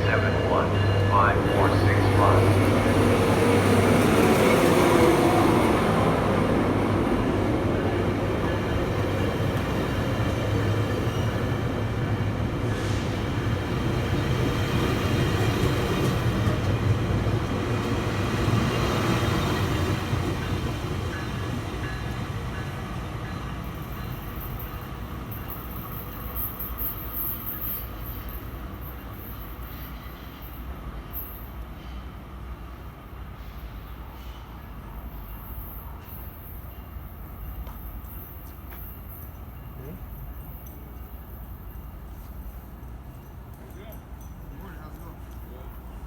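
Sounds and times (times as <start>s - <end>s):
diesel train rumbling on rails: 0.0s - 46.0s.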